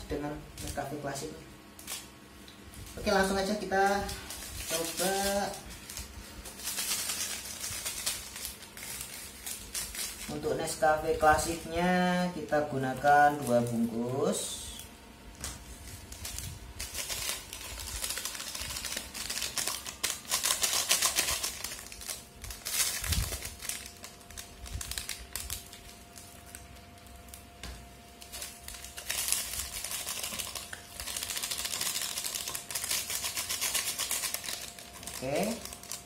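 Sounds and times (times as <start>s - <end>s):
foil packaging crinkling: 0.0s - 14.8s, 15.4s - 36.0s.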